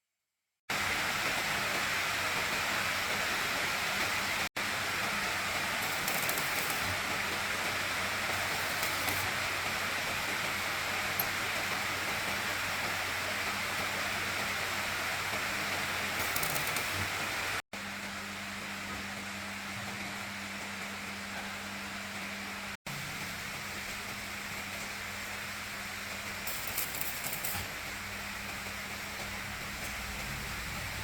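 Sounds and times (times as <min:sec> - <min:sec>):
steady hiss: 0:00.7 - 0:18.6, 0:22.9 - 0:31.0.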